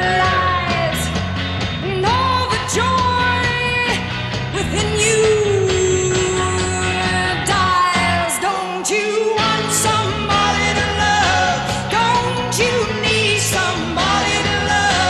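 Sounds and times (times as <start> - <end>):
woman singing: 0.0 - 1.2, 1.8 - 15.0
psychedelic rock song: 0.0 - 15.0.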